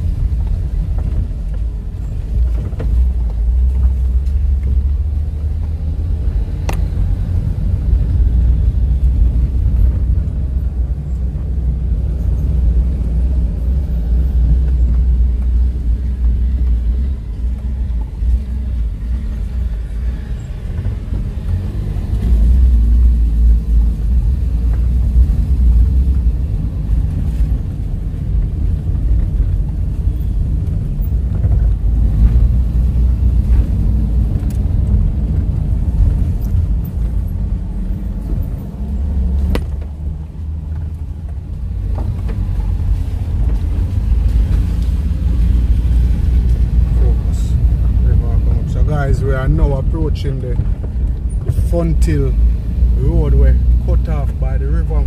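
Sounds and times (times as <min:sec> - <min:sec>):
car rumbling on rough road: 0:00.0 - 0:55.0.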